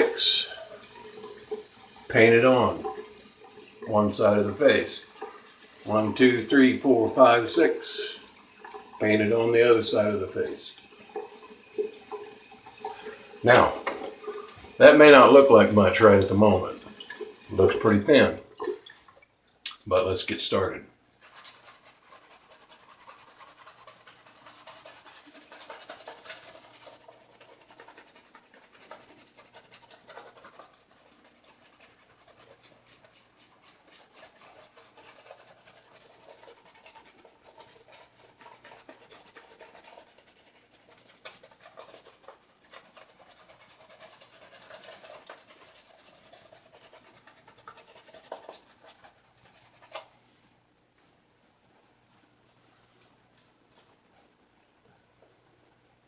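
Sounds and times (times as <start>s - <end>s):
shaving brush swishing lather: 0.0s - 18.8s, 21.1s - 54.3s.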